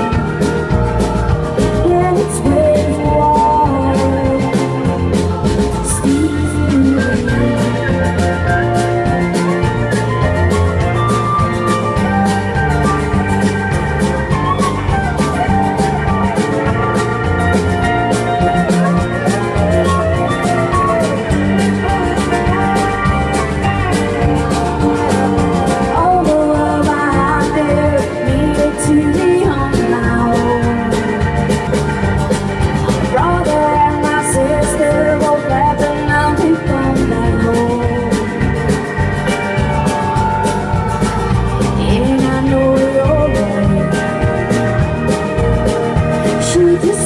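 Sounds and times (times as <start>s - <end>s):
drum kit beat: 0.0s - 47.0s
guitar lines with gliding notes: 0.0s - 47.0s.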